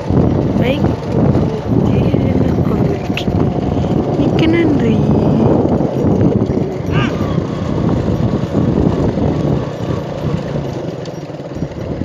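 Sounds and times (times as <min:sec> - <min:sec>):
road noise: 0:00.0 - 0:12.0
vehicle engine running roughly: 0:00.0 - 0:12.0.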